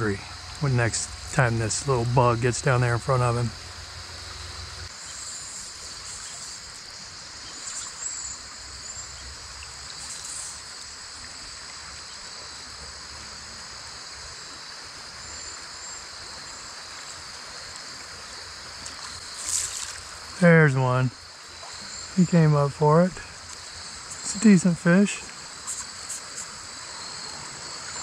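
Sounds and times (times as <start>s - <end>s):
creek water rushing: 0.0s - 28.0s
high insect drone: 0.0s - 28.0s.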